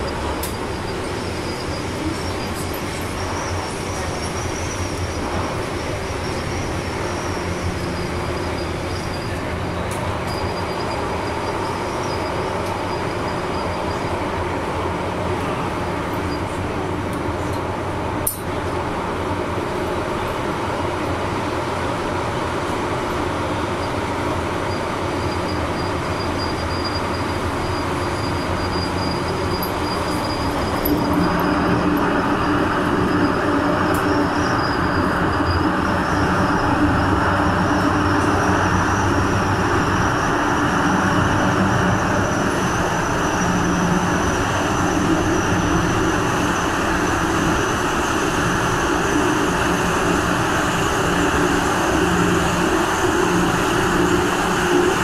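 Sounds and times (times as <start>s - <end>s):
faint rising train whine: 0.0s - 55.0s
train wheels rumbling on rail: 0.0s - 55.0s.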